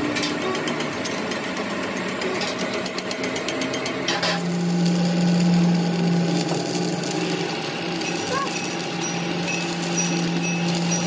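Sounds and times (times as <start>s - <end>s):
machine humming: 0.0s - 11.0s
metalworking machine ticking: 0.0s - 11.0s.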